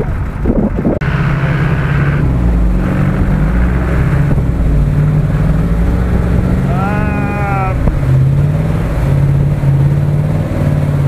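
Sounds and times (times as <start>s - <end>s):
off-road vehicle engine running: 0.0s - 11.0s
water and ice churning: 0.0s - 11.0s.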